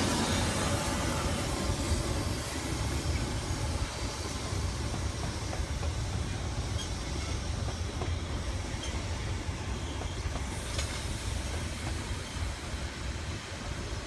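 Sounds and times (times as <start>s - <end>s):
steam train rumbling on track: 0.0s - 14.0s.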